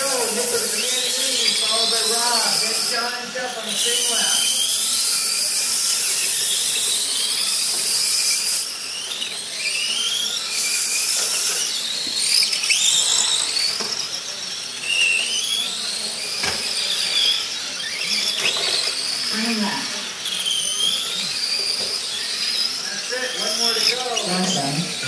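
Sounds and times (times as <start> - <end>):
toy truck electric motors whining: 0.0 - 25.0.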